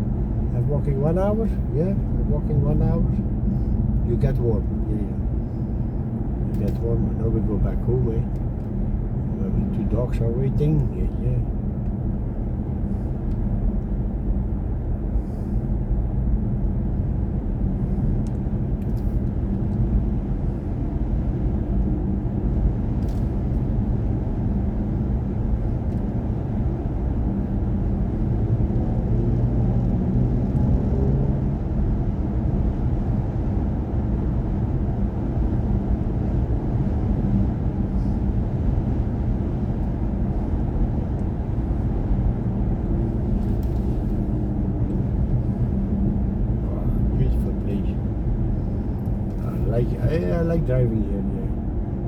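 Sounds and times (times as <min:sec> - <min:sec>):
road and tyre rumble: 0:00.0 - 0:52.0.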